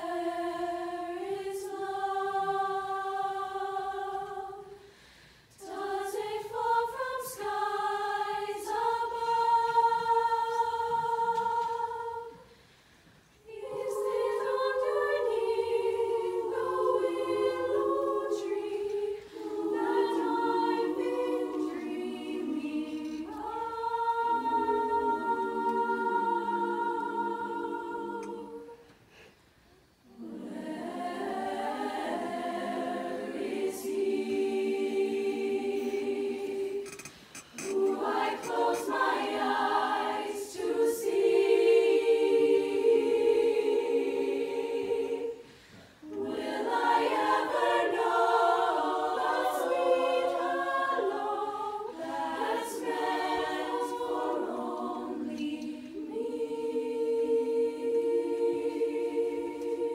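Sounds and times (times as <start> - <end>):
girls' choir singing in harmony: 0.0 - 12.7, 13.3 - 29.3, 29.9 - 59.9.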